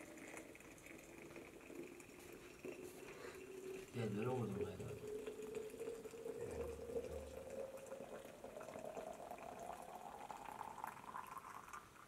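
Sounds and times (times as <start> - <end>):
hot water pouring into flask: 0.0 - 12.0.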